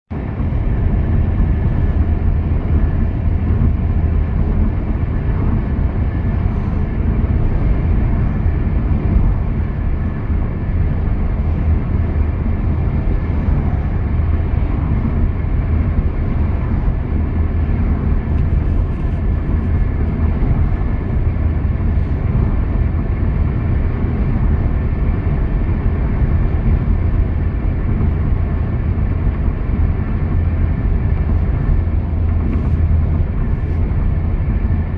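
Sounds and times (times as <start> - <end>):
car driving at highway speed: 0.1 - 34.9.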